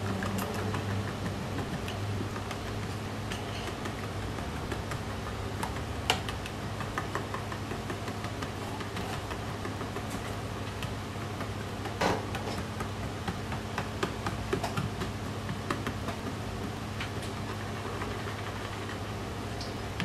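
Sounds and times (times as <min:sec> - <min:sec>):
whisk clicking against bowl: 0:00.0 - 0:19.0.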